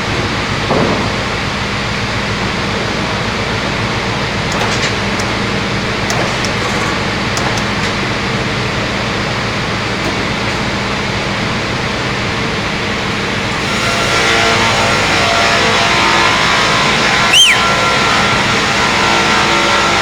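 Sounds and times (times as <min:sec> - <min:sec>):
circular sawing machine whirring: 0:02.2 - 0:20.0.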